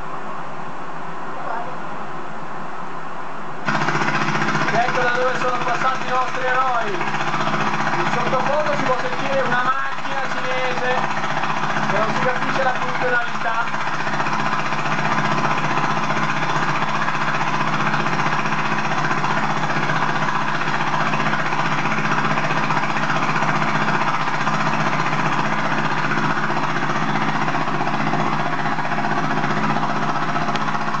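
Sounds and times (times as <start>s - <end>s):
machine running loudly: 3.6s - 31.0s.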